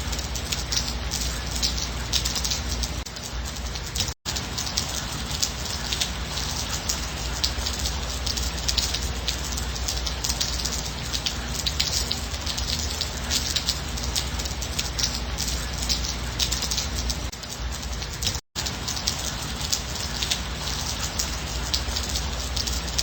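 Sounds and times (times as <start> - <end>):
light rain pattering: 0.0 - 23.0.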